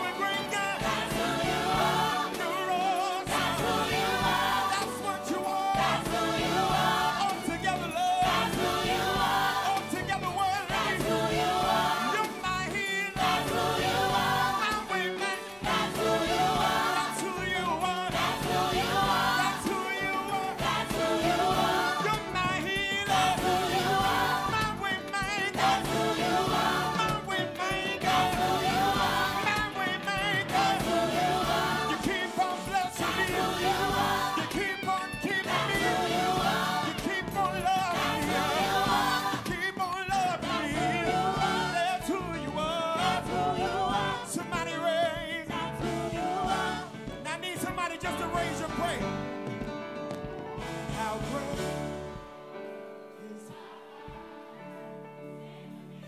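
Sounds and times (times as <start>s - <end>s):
gospel worship song: 0.0s - 56.0s.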